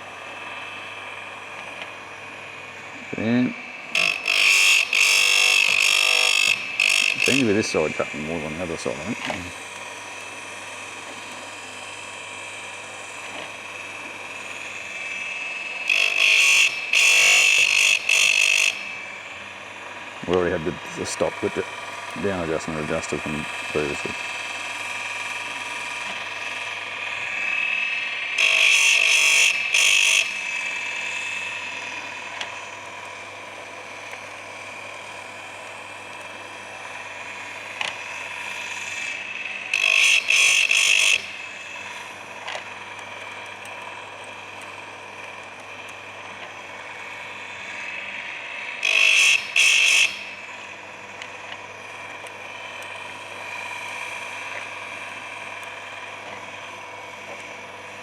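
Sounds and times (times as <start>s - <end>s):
grinding wheel whine: 0.0s - 58.0s
wheel grinding cutter tooth: 3.0s - 10.3s, 13.1s - 19.5s, 20.1s - 58.0s.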